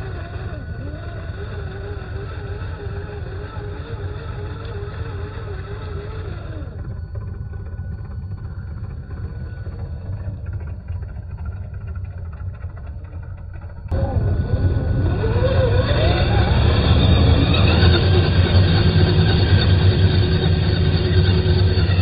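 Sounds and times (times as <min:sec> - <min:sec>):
rc truck motor whine: 0:00.0 - 0:22.0
steady low rumble: 0:00.0 - 0:22.0.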